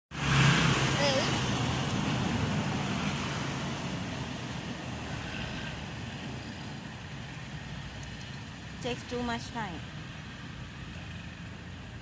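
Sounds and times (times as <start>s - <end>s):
road traffic rumble: 0.1s - 12.0s.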